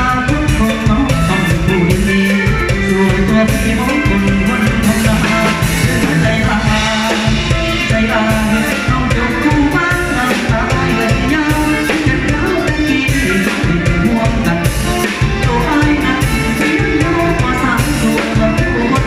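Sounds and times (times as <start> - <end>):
live band music through speakers: 0.0 - 19.0.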